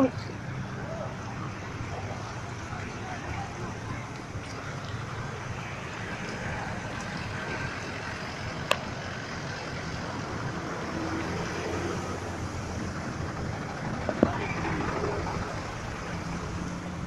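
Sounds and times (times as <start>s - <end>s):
vehicles driving through flooded street: 0.0s - 17.0s.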